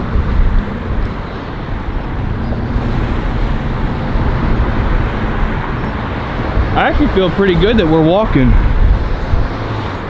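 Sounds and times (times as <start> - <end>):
road traffic passing: 0.0 - 10.0
wind buffeting microphone: 0.0 - 10.0.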